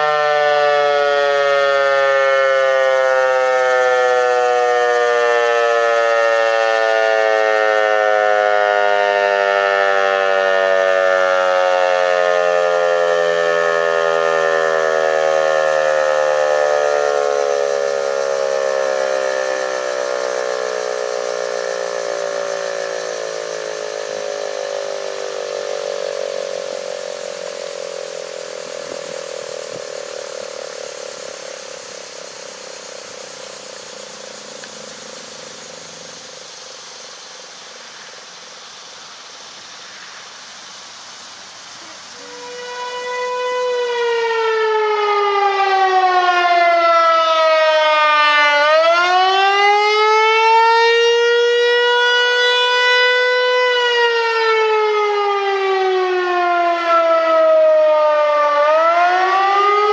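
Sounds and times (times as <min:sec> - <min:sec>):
warning siren winding down: 0:00.0 - 0:36.4, 0:41.8 - 0:59.9.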